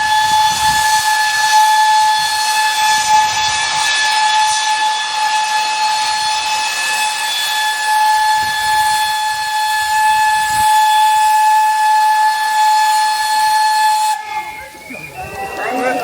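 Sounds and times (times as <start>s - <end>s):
steam hissing: 0.0s - 16.0s
steam whistle blast: 0.0s - 16.0s.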